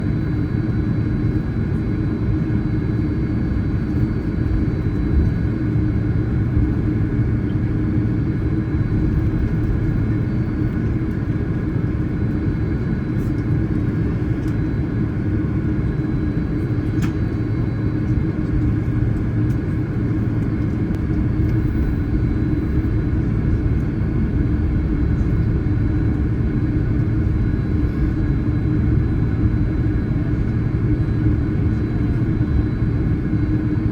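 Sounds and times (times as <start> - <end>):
aircraft cabin rumble and hum: 0.0 - 33.9.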